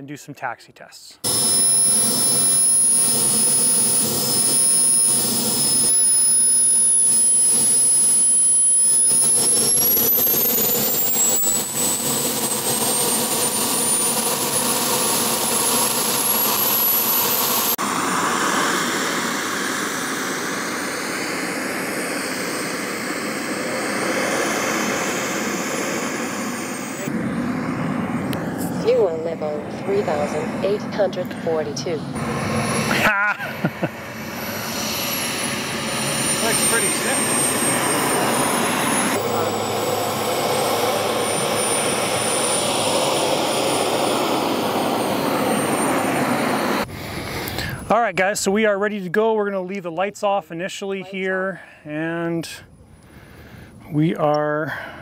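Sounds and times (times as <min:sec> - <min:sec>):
jet turbine whine: 0:01.2 - 0:55.0.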